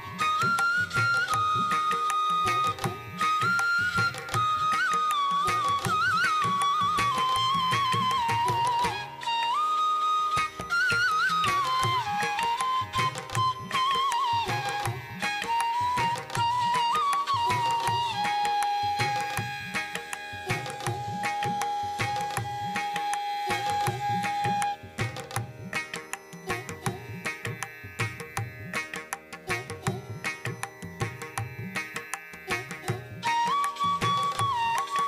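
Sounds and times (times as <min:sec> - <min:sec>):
tabla drumming: 0:00.0 - 0:09.6, 0:10.3 - 0:35.0.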